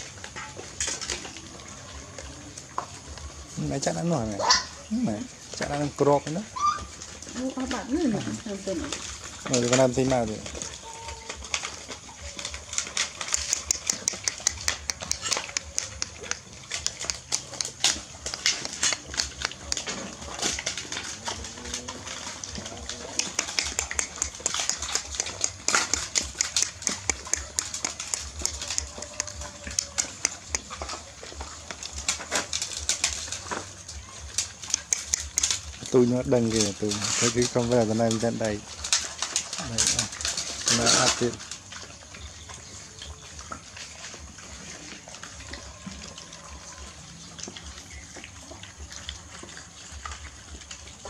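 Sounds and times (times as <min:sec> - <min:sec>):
dogs eating from bowls: 0:00.0 - 0:51.0.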